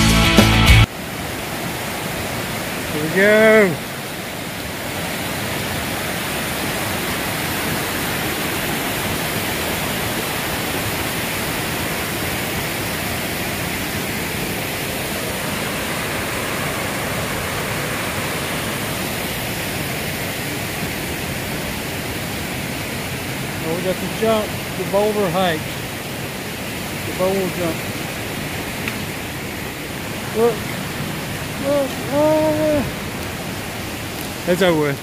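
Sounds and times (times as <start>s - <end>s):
river rushing over boulders: 0.8s - 35.0s.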